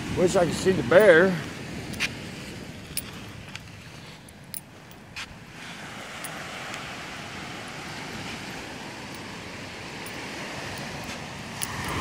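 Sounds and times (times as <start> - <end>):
ocean surf breaking: 0.0 - 4.2, 5.0 - 12.0.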